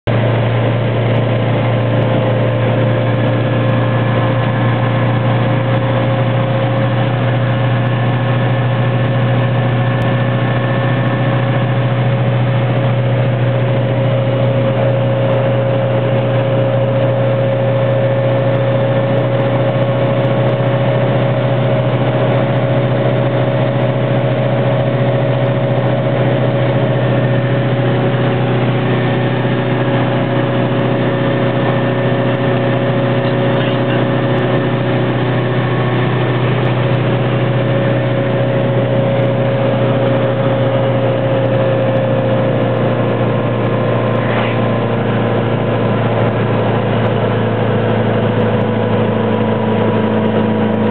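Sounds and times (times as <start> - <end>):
car engine droning: 0.0 - 50.9
engine whine: 0.0 - 50.9.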